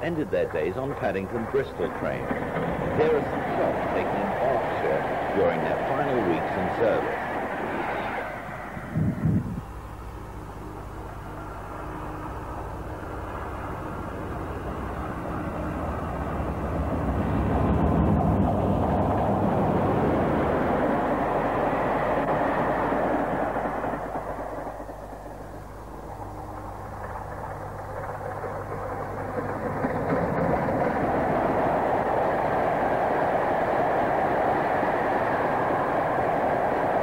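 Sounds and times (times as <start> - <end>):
diesel engine drone: 0.0 - 37.0
rushing noise of passing train: 0.0 - 37.0.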